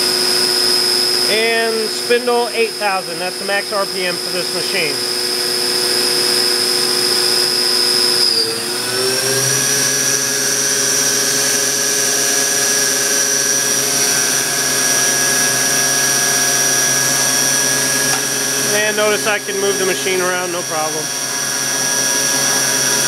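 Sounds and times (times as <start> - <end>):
machine spindle whining: 0.0 - 23.0.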